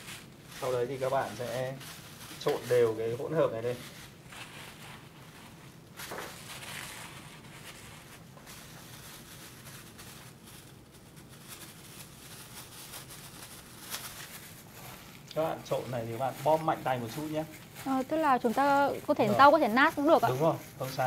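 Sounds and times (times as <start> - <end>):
hands rustling leaves in a bowl: 0.0 - 21.0.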